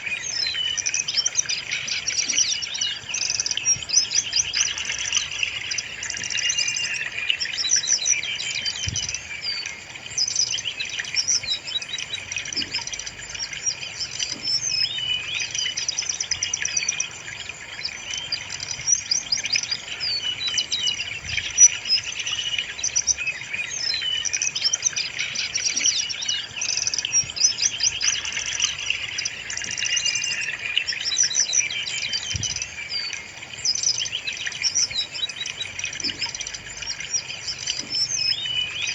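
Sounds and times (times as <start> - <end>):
bird twittering and warbling: 0.0 - 38.9.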